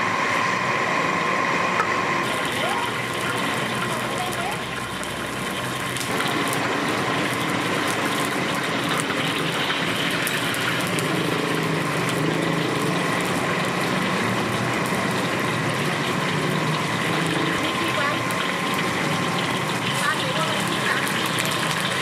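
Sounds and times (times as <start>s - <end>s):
gas burner roaring: 0.0s - 22.0s
hot oil sizzling and crackling: 0.0s - 22.0s.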